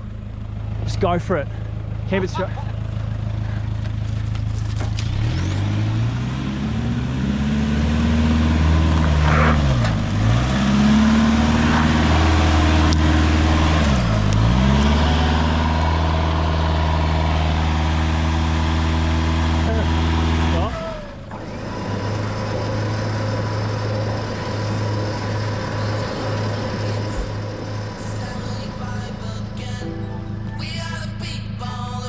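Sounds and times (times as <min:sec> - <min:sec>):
vehicle engine revving under load: 0:00.0 - 0:29.9.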